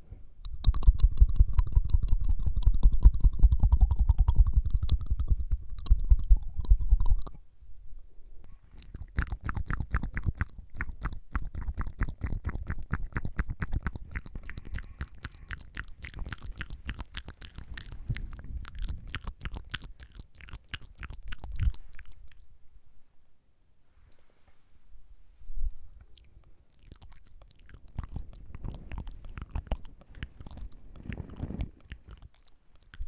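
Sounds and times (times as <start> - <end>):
wet mouth clicks and pops: 0.4 - 7.4, 8.5 - 22.5, 26.0 - 33.0.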